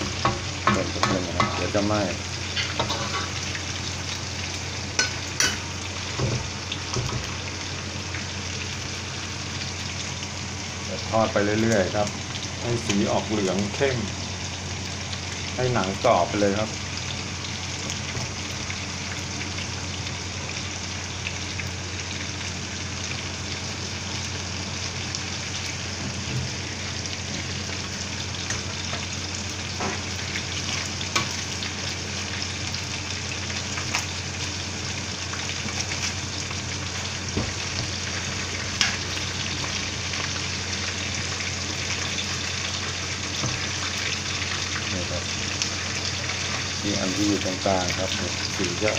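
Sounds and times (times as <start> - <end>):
oil popping and crackling: 0.0 - 48.9
oil sizzling: 0.0 - 48.9.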